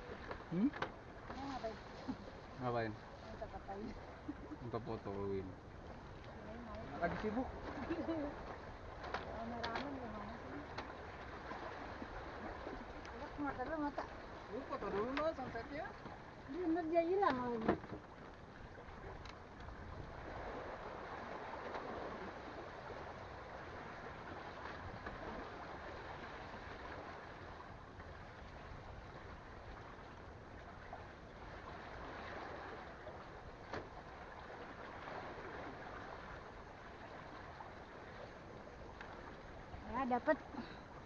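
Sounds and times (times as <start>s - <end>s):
sea water lapping: 0.0s - 41.0s.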